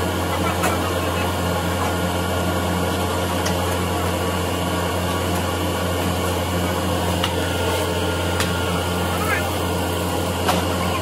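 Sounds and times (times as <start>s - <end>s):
furnace air blower drone: 0.0s - 11.0s.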